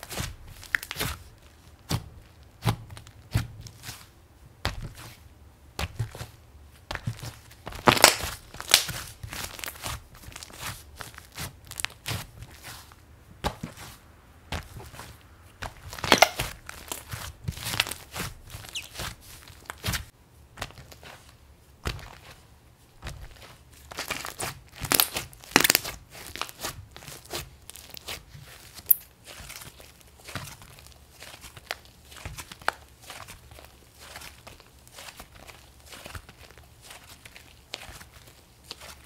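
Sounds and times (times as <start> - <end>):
slime squishing and crackling: 0.0 - 4.1, 6.9 - 13.8, 14.6 - 21.3, 23.0 - 39.0.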